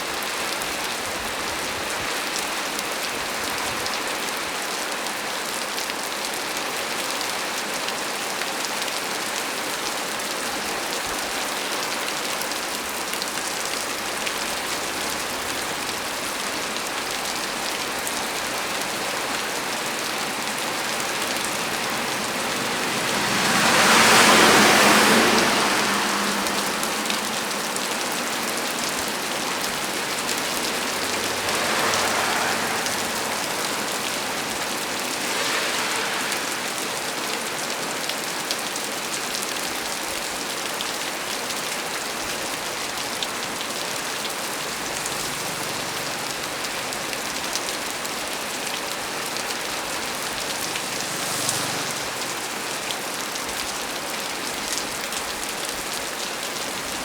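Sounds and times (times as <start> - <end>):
heavy rain on a tree: 0.0 - 57.0.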